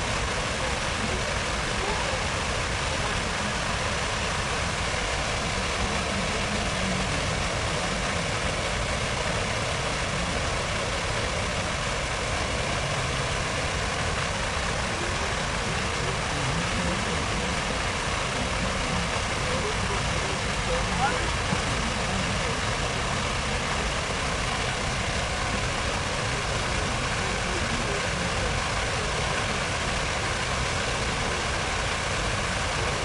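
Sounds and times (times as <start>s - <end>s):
low rumble of traffic: 0.0s - 33.0s
urban noise wash: 0.0s - 33.0s.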